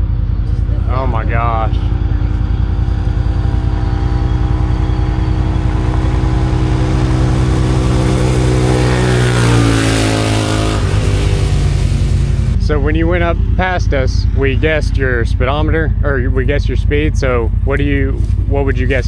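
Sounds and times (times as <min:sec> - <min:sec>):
utility vehicle engine revving: 0:00.0 - 0:19.0.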